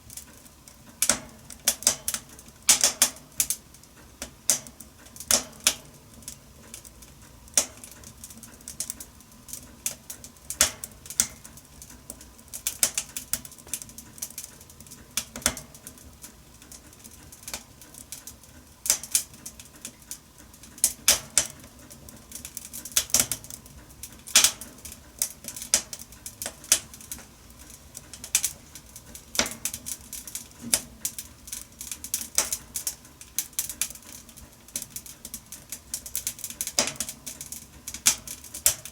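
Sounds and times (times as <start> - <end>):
faint hiss of flames: 0.0 - 38.9
wood fire crackling: 0.0 - 38.9.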